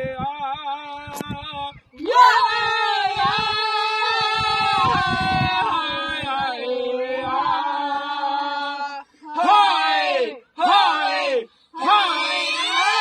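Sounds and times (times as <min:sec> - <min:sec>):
singers chanting together: 0:02.0 - 0:13.0.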